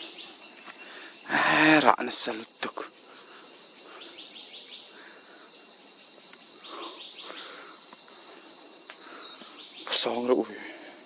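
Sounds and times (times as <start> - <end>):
insects buzzing: 0.0 - 11.0
insects chirping: 0.0 - 11.0.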